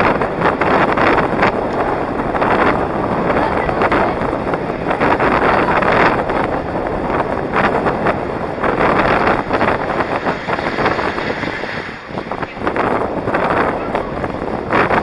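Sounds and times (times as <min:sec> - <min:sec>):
skate wheels rolling on asphalt: 0:00.0 - 0:15.0
wind buffeting microphone: 0:00.0 - 0:15.0.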